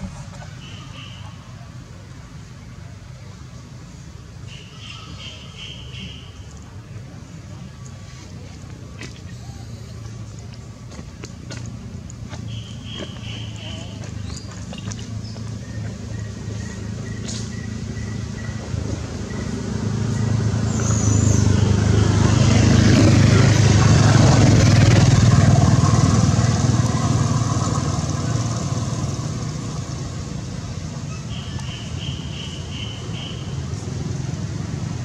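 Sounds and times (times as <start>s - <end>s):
vehicle engine hum passing: 0.0s - 35.0s.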